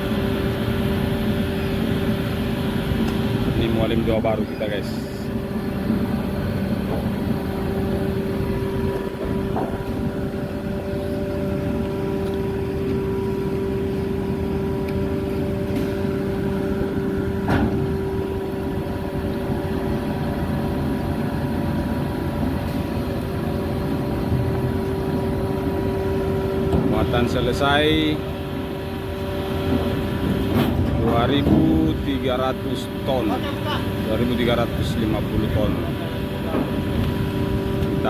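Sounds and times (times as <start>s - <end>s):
diesel machinery droning: 0.0s - 38.0s
steady hum: 0.0s - 38.0s.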